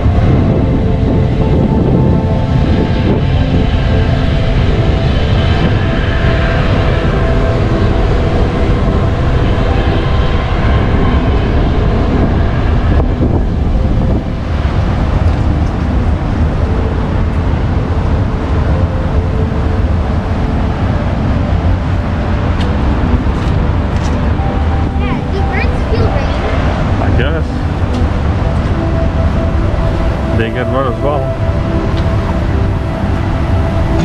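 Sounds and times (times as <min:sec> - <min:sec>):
ferry engine hum: 0:00.0 - 0:34.0
traffic rumble: 0:00.0 - 0:34.0
wind buffeting microphone: 0:00.0 - 0:34.0.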